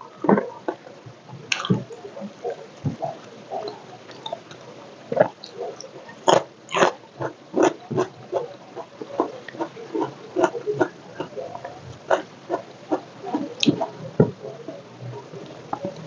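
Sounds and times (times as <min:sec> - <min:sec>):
chewing crispy food: 0:01.5 - 0:14.9.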